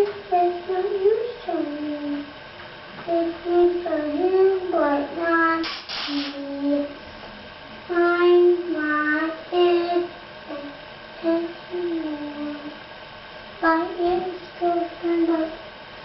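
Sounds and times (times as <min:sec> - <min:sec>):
child singing wordless tune: 0:00.0 - 0:02.4, 0:03.0 - 0:07.0, 0:07.9 - 0:12.8, 0:13.6 - 0:15.7.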